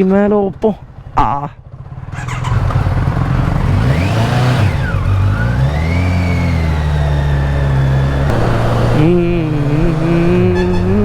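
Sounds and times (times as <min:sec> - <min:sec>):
wind and road noise: 0:00.0 - 0:11.0
motorcycle engine accelerating: 0:00.8 - 0:11.0.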